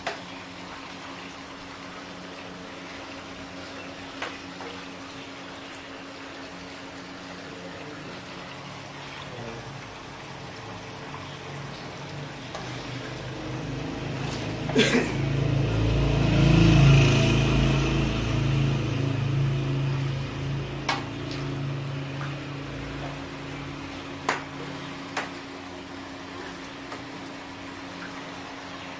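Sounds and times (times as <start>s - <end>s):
broth boiling and bubbling: 0.0s - 28.9s.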